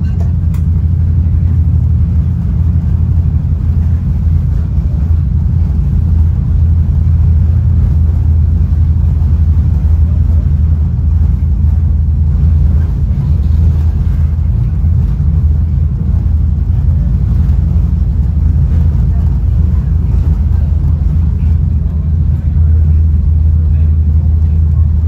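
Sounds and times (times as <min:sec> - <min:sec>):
train car low rumble: 0:00.0 - 0:25.0.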